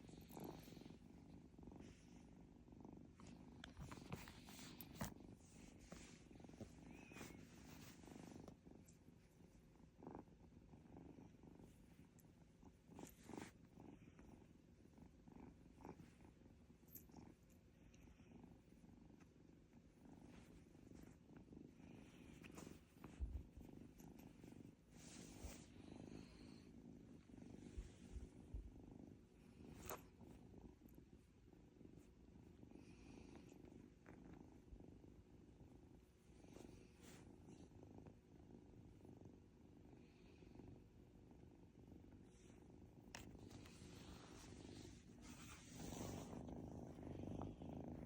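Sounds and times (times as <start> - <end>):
kitten purring: 0.0 - 48.0.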